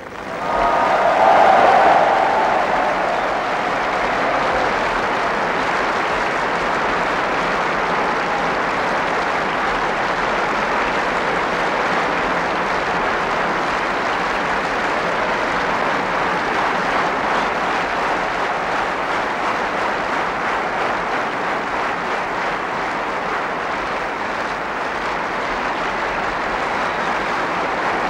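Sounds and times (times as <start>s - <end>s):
stadium crowd applauding: 0.0s - 28.0s.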